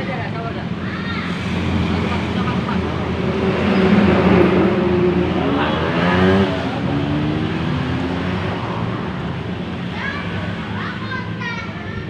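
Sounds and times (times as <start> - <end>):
vehicle engine passing by: 1.2 - 10.9.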